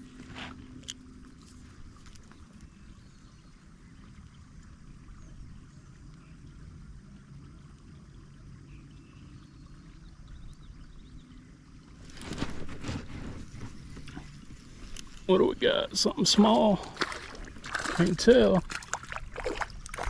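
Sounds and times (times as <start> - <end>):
faint water sounds: 0.0 - 20.0.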